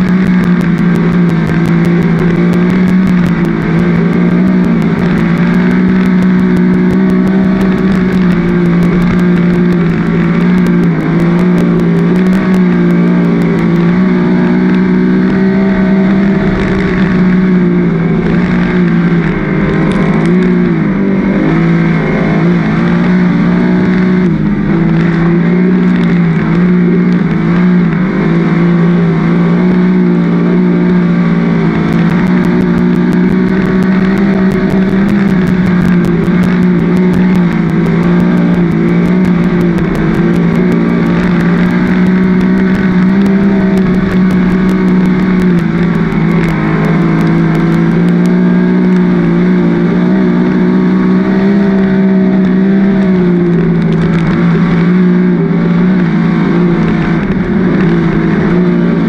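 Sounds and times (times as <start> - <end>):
race car engine at speed: 0.0 - 59.0.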